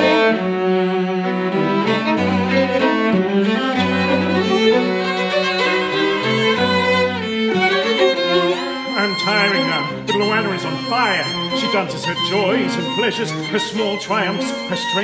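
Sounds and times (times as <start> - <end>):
cello and string quartet playing: 0.0 - 15.0.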